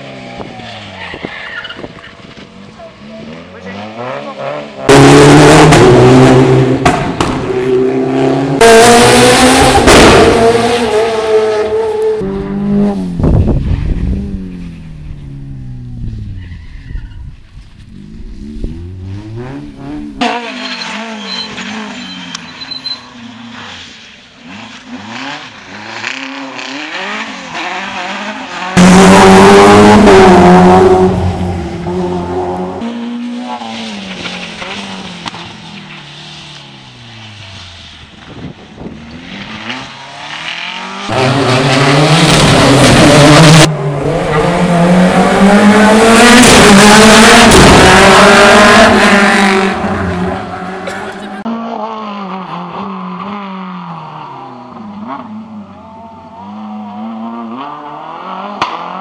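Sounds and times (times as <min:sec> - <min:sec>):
rally cars racing past revving: 0:00.0 - 0:15.2, 0:17.9 - 0:59.0.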